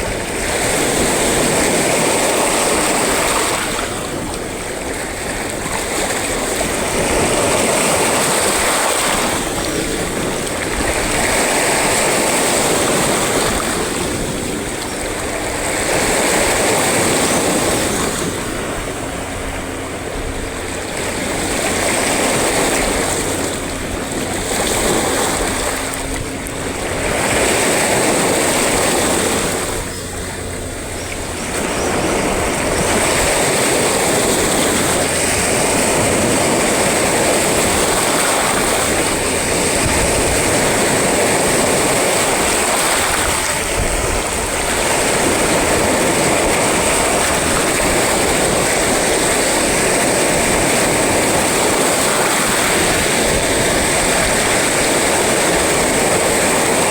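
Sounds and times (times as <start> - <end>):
surf breaking on shore: 0.0 - 56.9.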